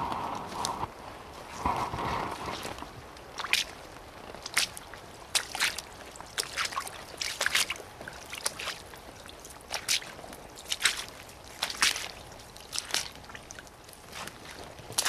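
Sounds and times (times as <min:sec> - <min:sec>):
squelching splashing footsteps: 0:00.0 - 0:15.0.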